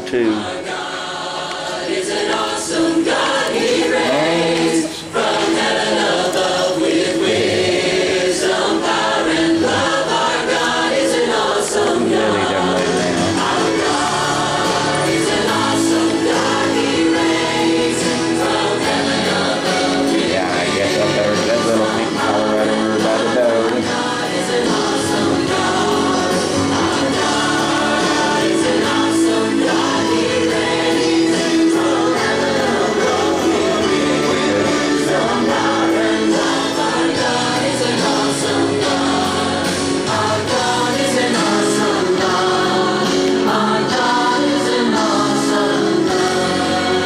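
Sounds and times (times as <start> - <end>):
choir singing with instruments: 0.0 - 47.0.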